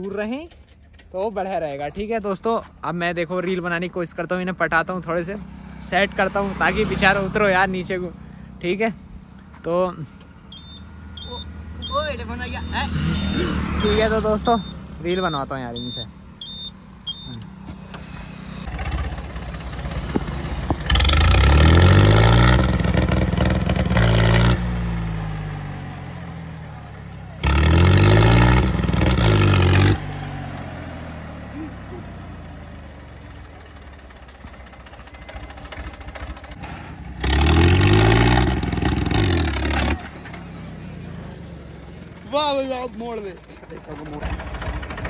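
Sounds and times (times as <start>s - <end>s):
tractor diesel engine revving: 3.1s - 9.4s, 10.1s - 45.0s.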